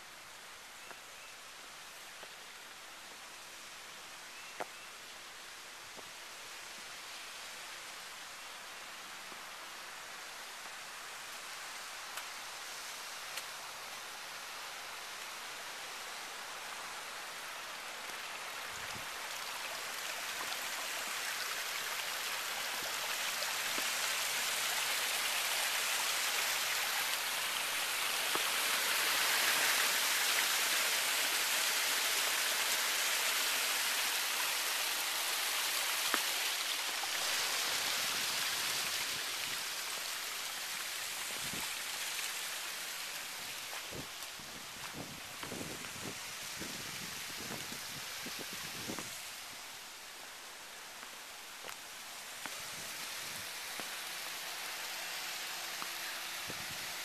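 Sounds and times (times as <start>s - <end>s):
falling water hissing: 5.4s - 57.0s.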